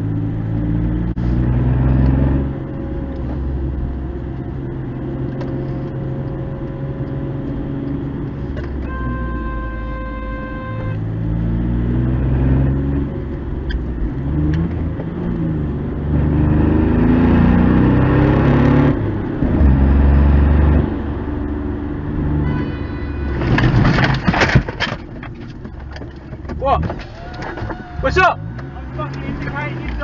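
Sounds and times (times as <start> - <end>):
car engine accelerating: 0.0 - 8.8, 11.0 - 22.4, 23.4 - 30.0
road noise: 0.0 - 30.0.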